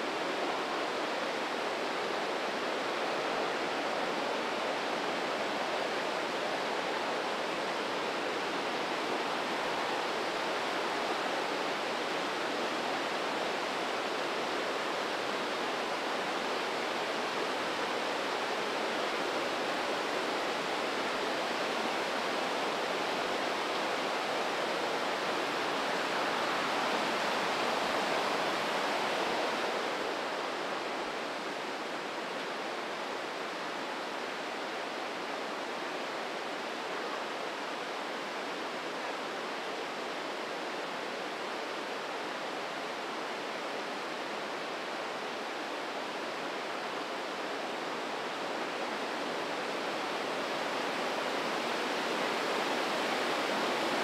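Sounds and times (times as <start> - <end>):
river rushing through gorge: 0.0 - 54.0.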